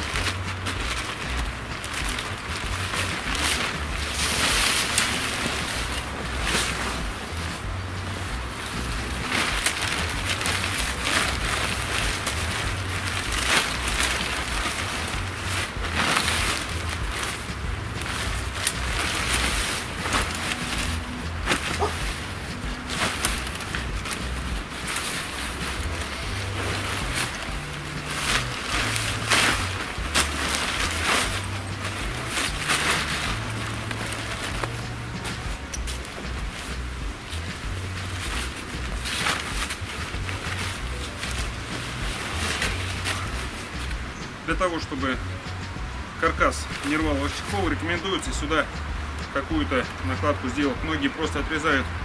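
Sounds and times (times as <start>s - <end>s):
tent fabric rustling: 0.0s - 52.0s.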